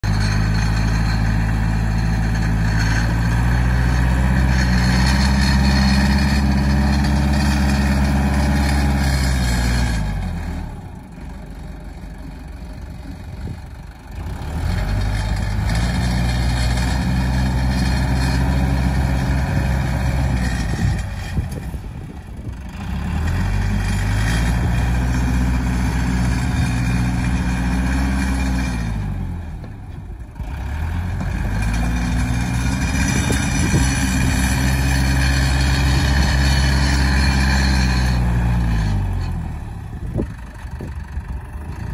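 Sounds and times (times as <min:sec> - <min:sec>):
tractor diesel engine revving: 0:00.0 - 0:41.9.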